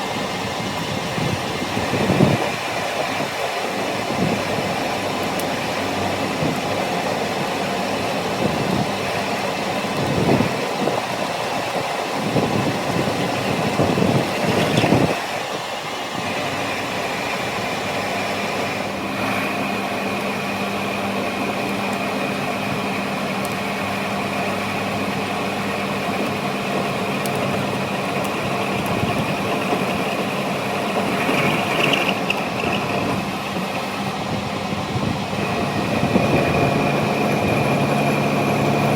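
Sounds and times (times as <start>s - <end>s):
machine high whine: 0.0s - 38.9s
workshop machinery running: 0.0s - 38.9s.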